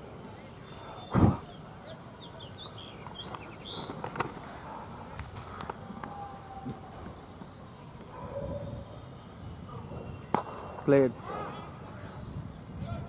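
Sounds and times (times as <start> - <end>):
birds chirping: 0.0 - 13.0
open-air background noise: 0.0 - 13.0.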